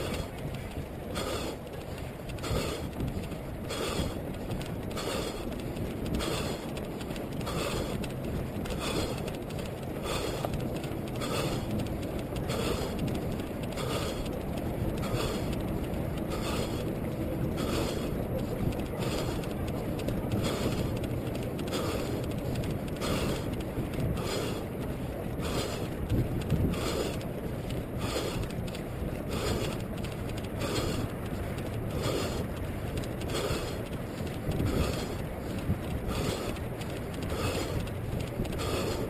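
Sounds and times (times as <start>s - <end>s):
runner breathing: 0.0s - 39.0s.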